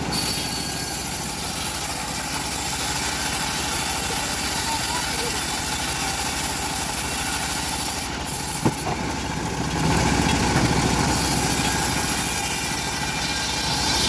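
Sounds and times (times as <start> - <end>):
bandsaw mill cutting log: 0.0 - 14.0.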